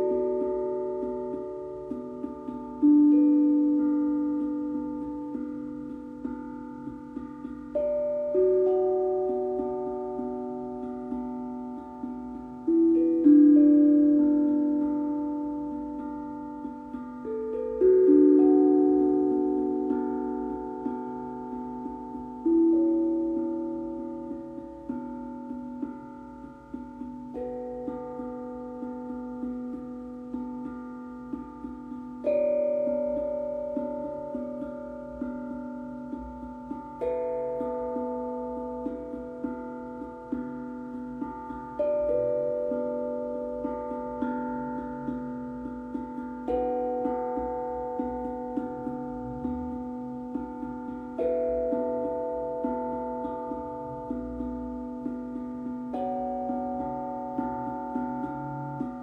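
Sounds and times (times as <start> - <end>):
singing bowl ringing: 0.0 - 59.0
steel tongue drum notes: 0.0 - 59.0.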